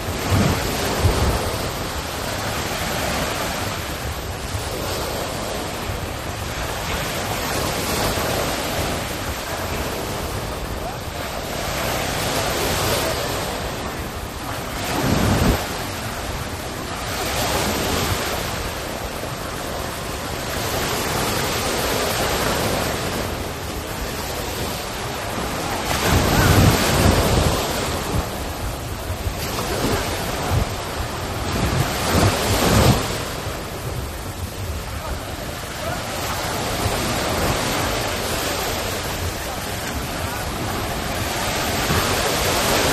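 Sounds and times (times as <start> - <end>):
waves washing onto sandy beach: 0.0 - 42.9
wind buffeting microphone: 0.0 - 42.9.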